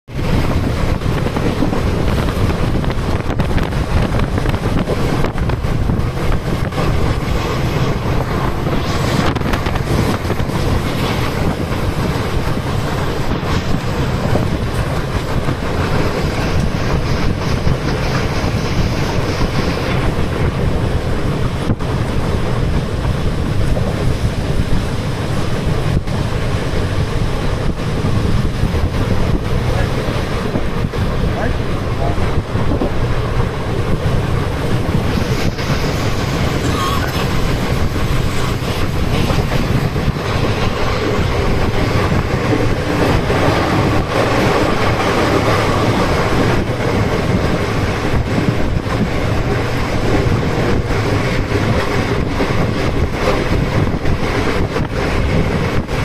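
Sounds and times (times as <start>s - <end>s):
train wheels rumbling on track: 0.0s - 56.0s
wind on microphone: 0.1s - 56.0s.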